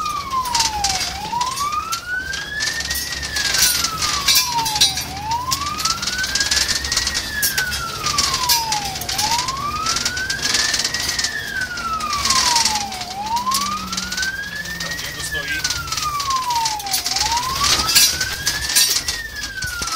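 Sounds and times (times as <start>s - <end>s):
fire truck siren wailing: 0.0s - 19.9s
road noise: 0.0s - 19.9s
truck engine: 0.0s - 19.9s.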